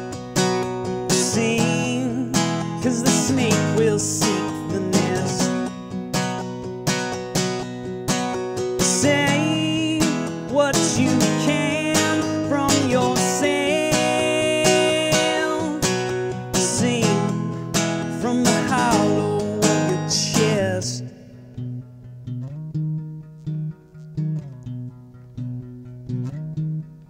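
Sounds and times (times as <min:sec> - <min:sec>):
acoustic guitar strumming: 0:00.0 - 0:27.0
guitar melody line: 0:00.0 - 0:27.0
picked guitar notes: 0:00.0 - 0:27.0.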